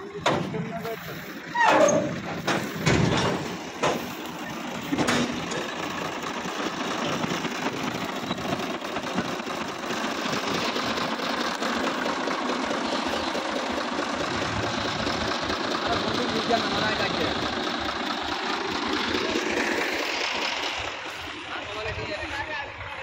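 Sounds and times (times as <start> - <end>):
diesel tractor engine idling: 0.0 - 23.0.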